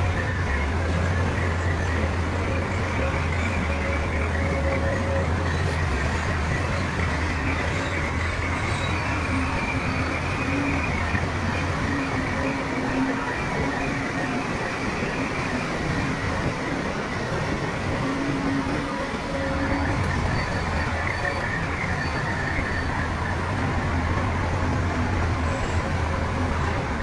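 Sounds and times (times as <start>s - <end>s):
diesel machinery clattering: 0.0s - 27.0s.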